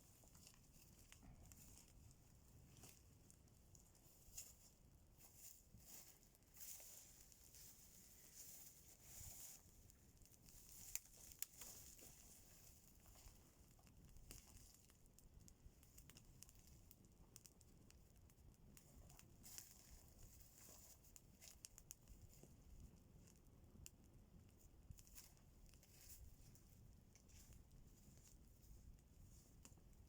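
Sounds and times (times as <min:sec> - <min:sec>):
faint clicks and crackles: 0:00.0 - 0:30.0.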